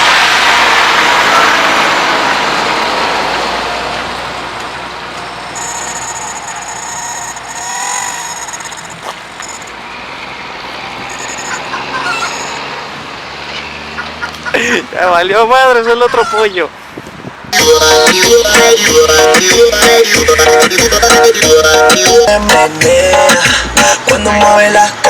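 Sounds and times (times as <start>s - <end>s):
car engine and exhaust: 0.0s - 25.0s.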